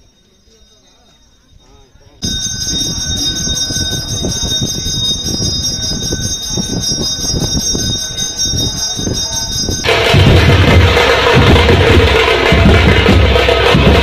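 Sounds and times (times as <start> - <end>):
brass bell ringing: 0.0 - 14.0.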